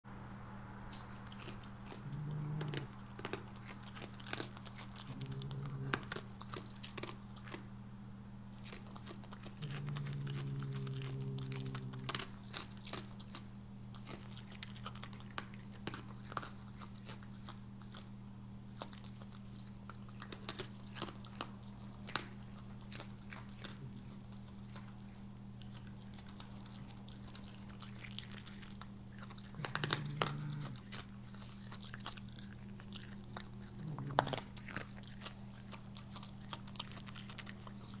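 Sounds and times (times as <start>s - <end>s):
steady low hum: 0.1s - 38.0s
animal crunching kibble: 0.9s - 7.8s, 8.5s - 38.0s.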